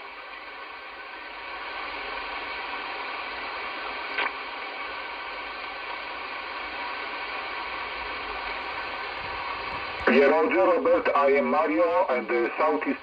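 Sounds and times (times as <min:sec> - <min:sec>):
radio static hiss: 0:00.0 - 0:13.0
radio crackle: 0:01.7 - 0:13.0.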